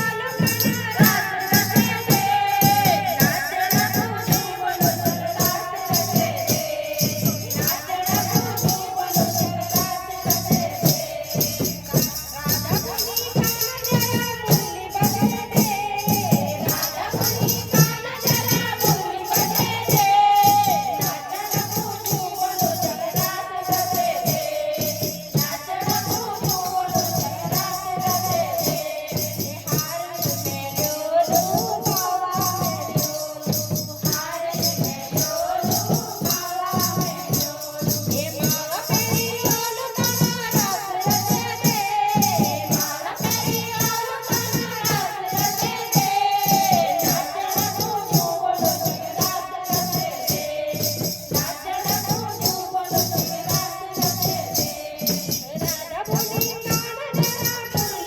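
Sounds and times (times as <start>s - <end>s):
shaken percussion rattling: 0.0s - 58.0s
steady drum beat: 0.0s - 58.0s
voices singing devotional song: 0.0s - 58.0s.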